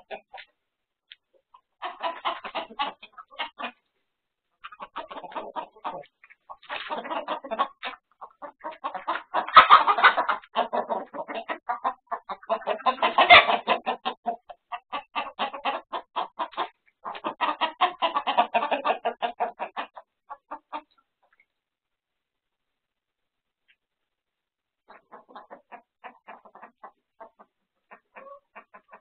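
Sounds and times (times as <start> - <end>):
chicken squawks: 0.0 - 0.5, 1.5 - 3.9, 4.6 - 21.4, 24.8 - 29.0
chickens clucking and cackling: 0.0 - 21.6, 23.6 - 29.0.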